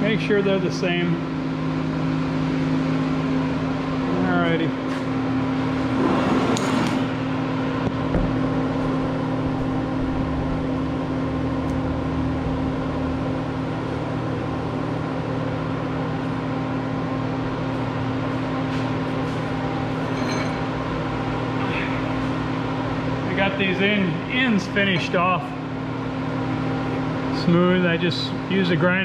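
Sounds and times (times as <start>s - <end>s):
electrical hum of equipment: 0.0s - 29.0s.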